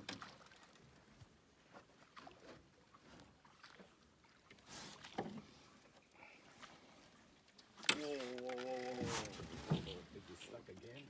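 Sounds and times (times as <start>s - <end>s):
water noise: 0.0s - 11.0s.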